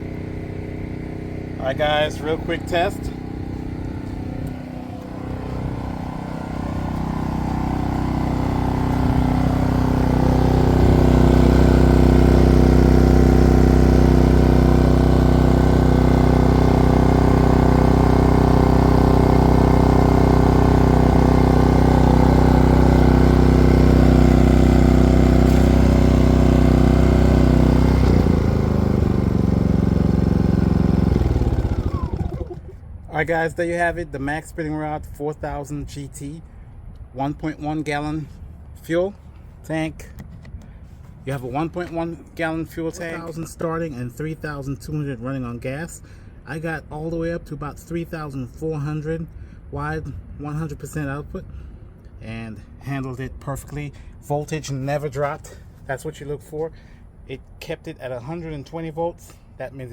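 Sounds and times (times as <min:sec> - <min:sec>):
generator engine running: 0:00.0 - 0:33.3, 0:36.1 - 0:59.9.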